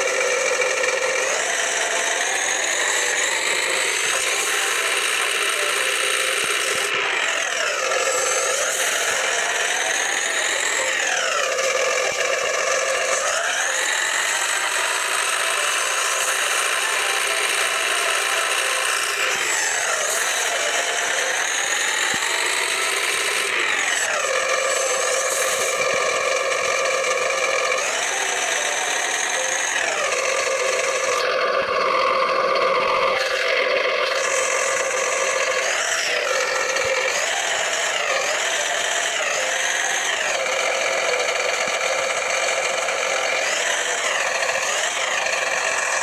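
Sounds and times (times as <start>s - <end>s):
small motor whining: 0.0s - 46.0s.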